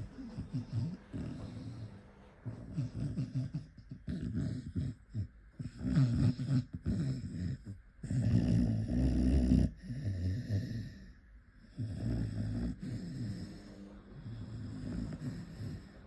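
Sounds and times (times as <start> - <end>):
dog snoring: 0.0 - 16.0.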